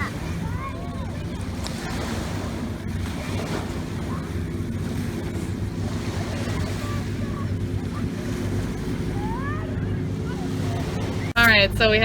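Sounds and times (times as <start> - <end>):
surf washing on beach: 0.0 - 12.0
wind rumble on microphone: 0.0 - 12.0.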